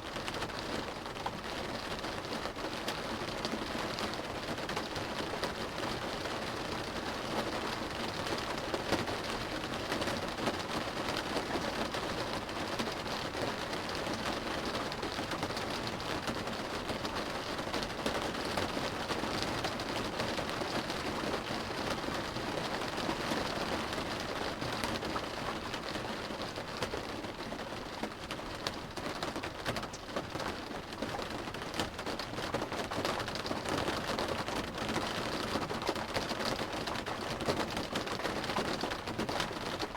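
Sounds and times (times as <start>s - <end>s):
rain drumming on car roof: 0.1s - 39.9s.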